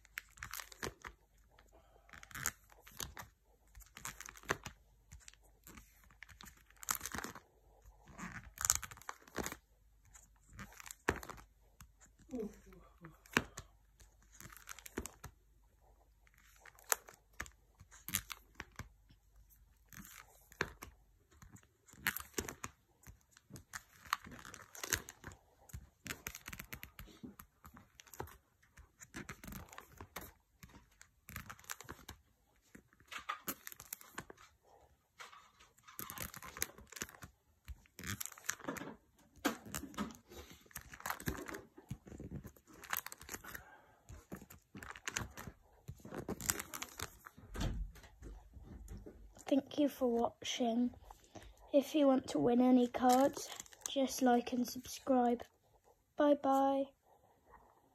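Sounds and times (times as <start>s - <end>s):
plastic sleeves crinkling: 0.0s - 57.8s.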